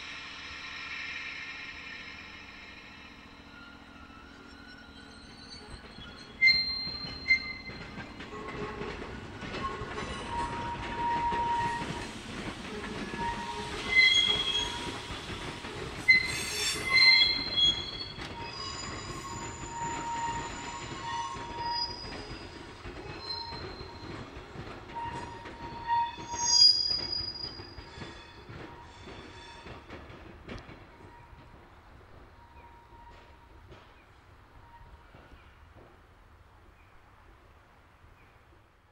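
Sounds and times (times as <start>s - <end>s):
train wheels squealing: 0.0s - 12.1s, 12.8s - 30.0s, 32.4s - 34.0s, 34.6s - 35.6s
wheels clicking and knocking on rails: 5.3s - 37.6s.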